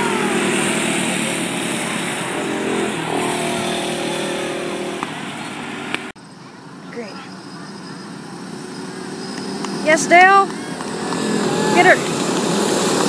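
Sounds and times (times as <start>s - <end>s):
small race car engines buzzing: 0.0s - 13.0s.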